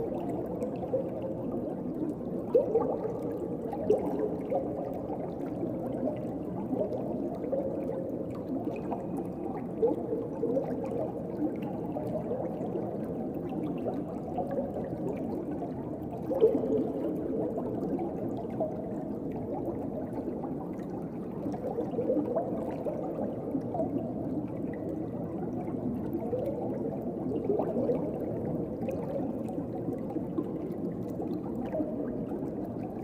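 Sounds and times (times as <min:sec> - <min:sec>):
gurgling bubbles: 0:00.0 - 0:33.0.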